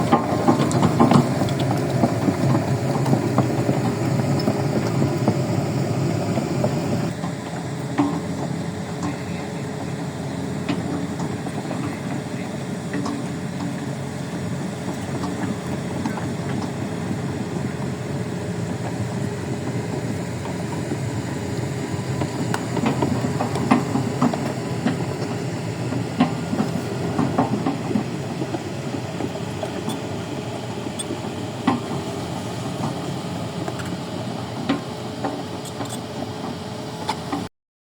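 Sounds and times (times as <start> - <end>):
excavator engine hum: 0.0 - 37.5.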